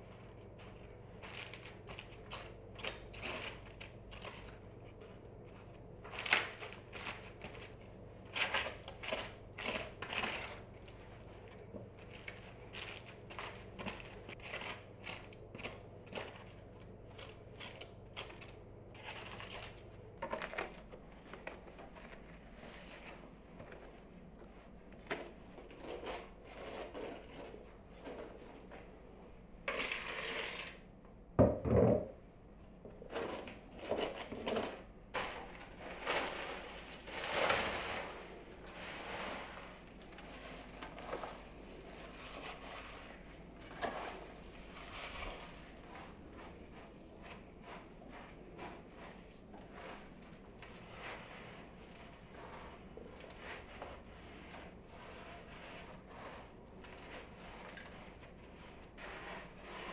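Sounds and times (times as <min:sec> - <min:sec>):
spatula scraping cream on cake: 0:00.0 - 0:19.9, 0:20.9 - 0:28.9, 0:29.7 - 0:30.8, 0:36.0 - 0:59.9.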